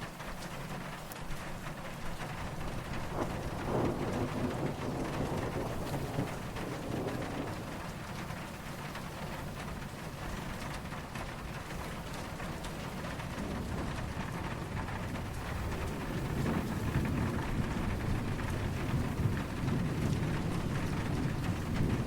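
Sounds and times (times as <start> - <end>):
steady rain falling: 0.0 - 22.0
distant thunder rumbling: 2.2 - 22.0.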